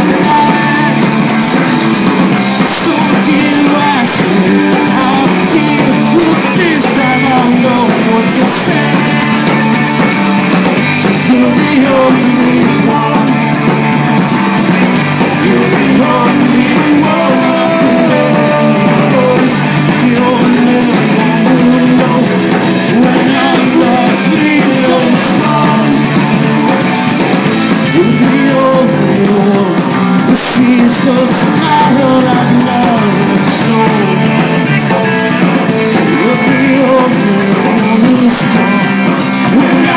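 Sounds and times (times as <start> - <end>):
electric guitars: 0.0 - 39.9
person singing: 0.0 - 39.9
rock band playing live: 0.0 - 39.9.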